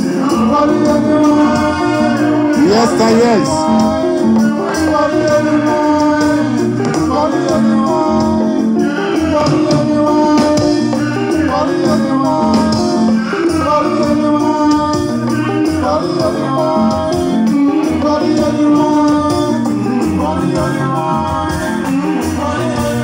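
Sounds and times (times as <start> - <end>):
bass: 0.0 - 23.0
drums playing a groove: 0.0 - 23.0
electric guitars: 0.0 - 23.0
person singing: 0.0 - 23.0.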